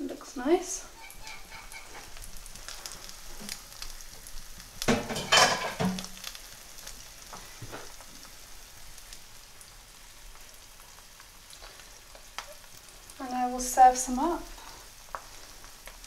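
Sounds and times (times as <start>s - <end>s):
eggs frying in a pan: 0.0s - 16.0s.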